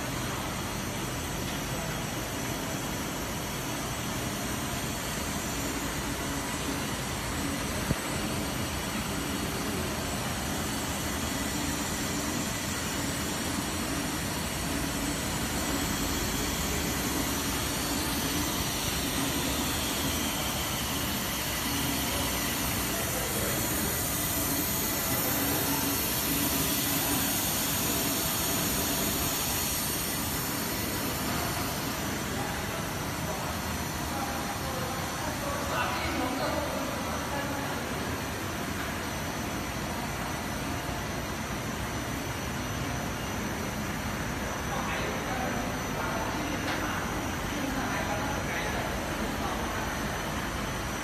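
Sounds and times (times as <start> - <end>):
extrusion line machinery hiss: 0.0 - 51.0.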